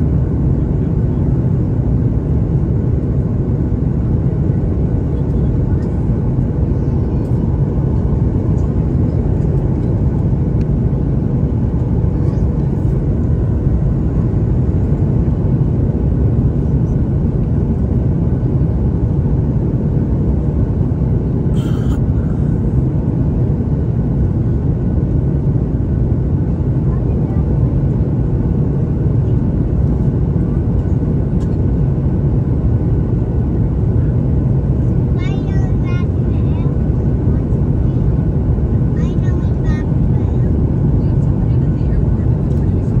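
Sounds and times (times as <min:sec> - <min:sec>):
airplane cabin rumble: 0:00.0 - 0:43.0.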